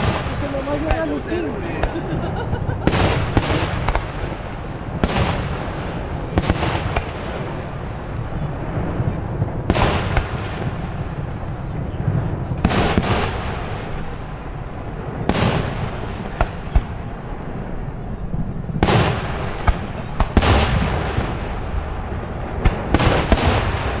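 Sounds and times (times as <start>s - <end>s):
fireworks bangs: 0.0s - 24.0s
low rumble and crackle: 0.0s - 24.0s.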